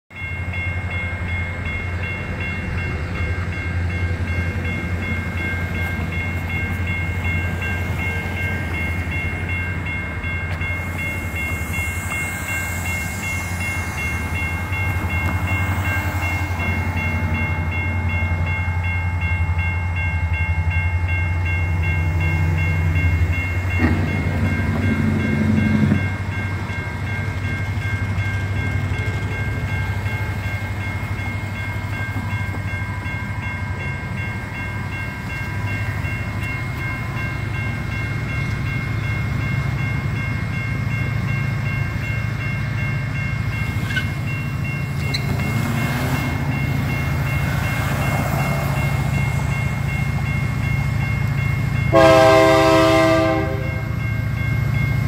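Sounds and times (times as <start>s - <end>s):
crossing bell ringing: 0.1s - 55.0s
diesel locomotive hum: 0.1s - 55.0s.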